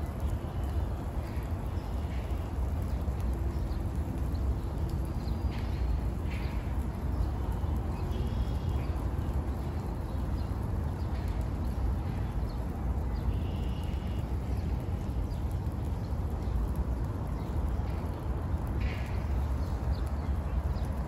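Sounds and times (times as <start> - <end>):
low outdoor rumble and hiss: 0.0 - 21.0.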